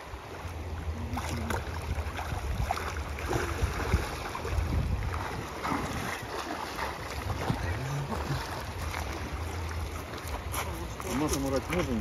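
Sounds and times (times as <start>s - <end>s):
water rushing: 0.0s - 12.0s
wind buffeting microphone: 0.6s - 12.0s
small knocks and splashes: 1.1s - 12.0s.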